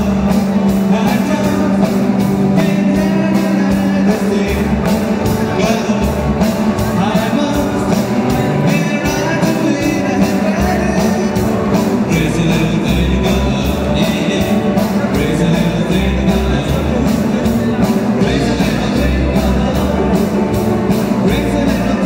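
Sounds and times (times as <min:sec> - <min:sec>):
bass guitar: 0:00.0 - 0:22.0
drum kit with steady beat: 0:00.0 - 0:22.0
electric guitars: 0:00.0 - 0:22.0.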